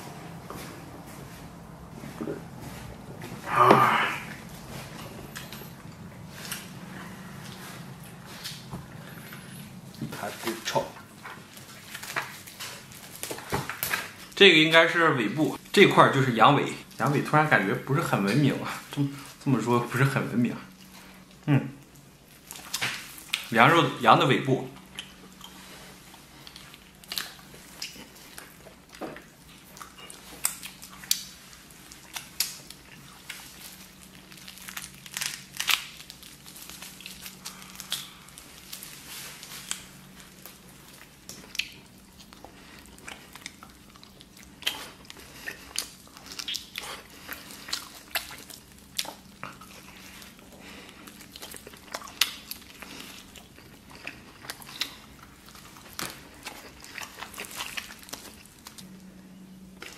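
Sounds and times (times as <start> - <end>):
person chewing with wet clicks: 4.3 - 14.4, 20.7 - 23.6, 24.7 - 59.9.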